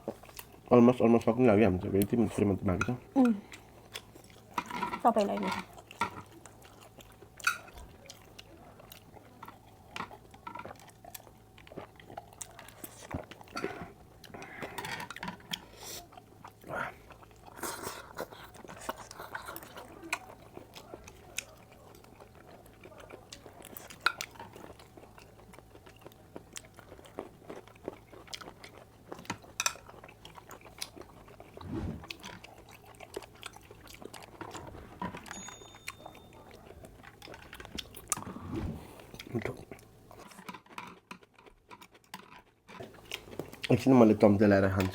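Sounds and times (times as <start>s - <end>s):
person chewing: 3.5s - 4.8s, 5.6s - 43.8s.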